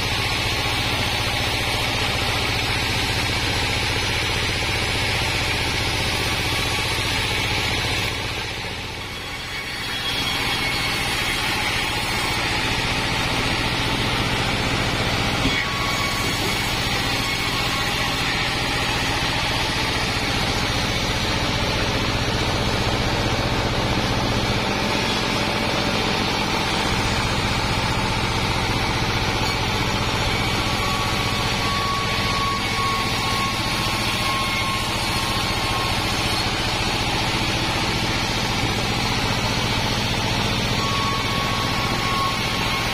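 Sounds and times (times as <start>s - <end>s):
band sawmill droning: 0.0s - 42.9s.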